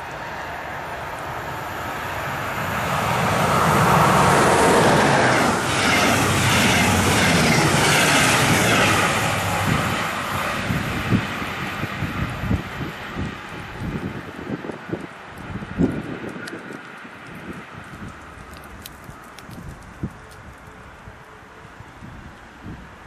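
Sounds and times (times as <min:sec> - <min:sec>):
train passing with wheel clatter: 0:00.0 - 0:22.0
wind buffeting microphone: 0:00.0 - 0:23.0.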